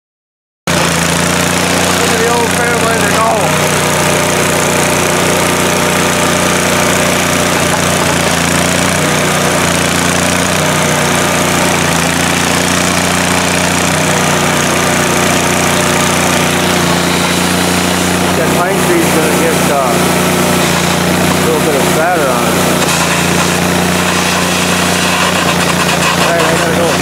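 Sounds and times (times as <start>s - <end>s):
engine-driven welder running: 0.7s - 27.0s.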